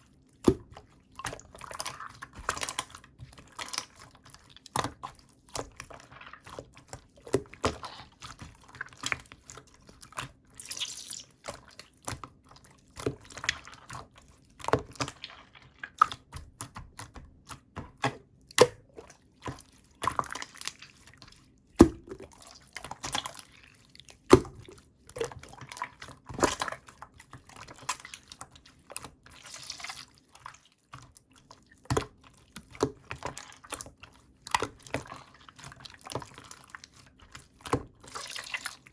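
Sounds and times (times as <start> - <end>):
slime squelching by hand: 0.0 - 38.9.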